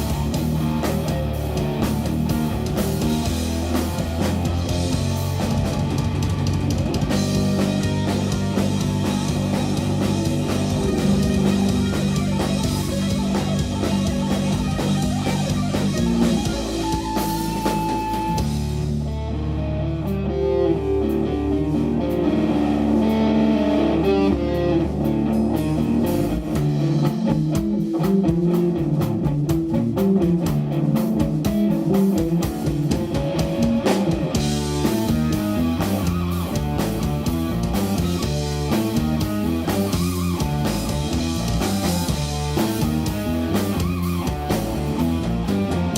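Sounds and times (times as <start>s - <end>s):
drums and cymbals: 0.0s - 19.2s, 20.8s - 45.9s
bass guitar: 0.0s - 45.9s
electric guitar: 0.0s - 45.9s.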